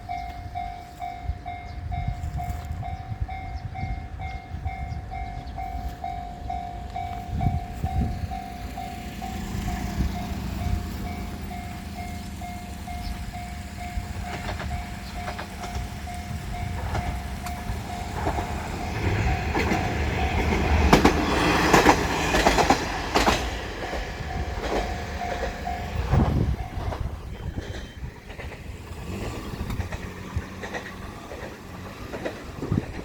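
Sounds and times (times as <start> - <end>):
level-crossing alarm dinging: 0.0 - 29.2
diesel train passing: 0.0 - 33.0
train wheels clacking: 0.0 - 33.0.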